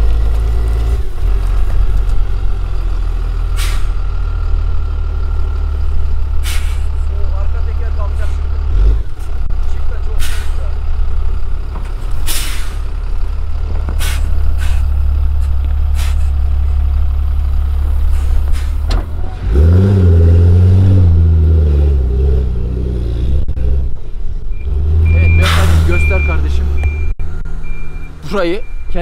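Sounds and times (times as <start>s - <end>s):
heavy vehicle engine revving: 0.0s - 28.9s.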